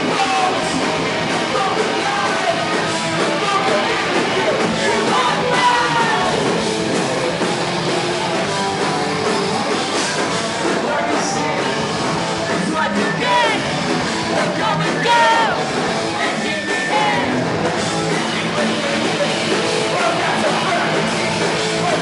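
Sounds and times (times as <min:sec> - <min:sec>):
distorted guitars: 0:00.0 - 0:22.0
drums: 0:00.0 - 0:22.0
rock vocals: 0:00.0 - 0:22.0.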